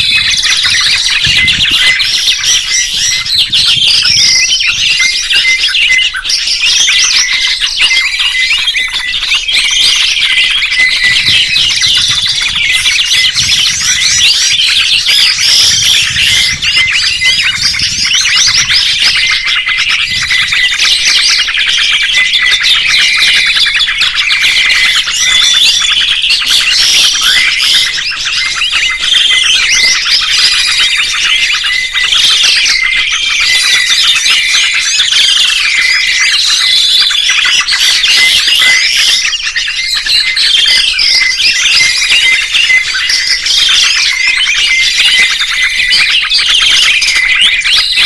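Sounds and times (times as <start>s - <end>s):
songbirds chirping and trilling: 0.0s - 48.0s.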